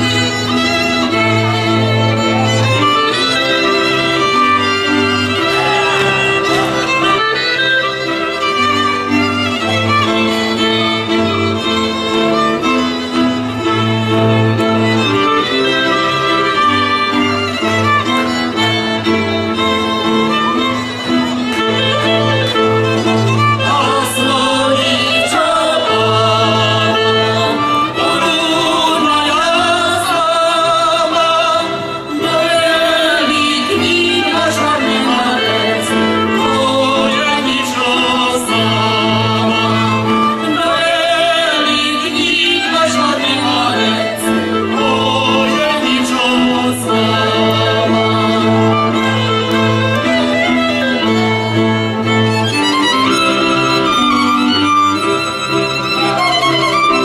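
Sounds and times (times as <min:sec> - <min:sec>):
fiddles playing melody: 0:00.0 - 0:57.0
pulsing double bass: 0:00.0 - 0:57.0.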